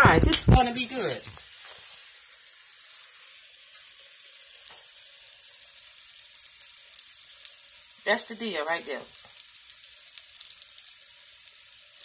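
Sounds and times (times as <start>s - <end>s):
patty sizzling in oil: 0.0s - 12.0s.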